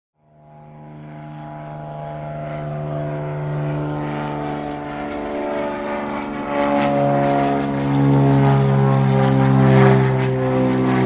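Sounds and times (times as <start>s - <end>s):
model airplane motor and propeller: 0.2s - 11.0s.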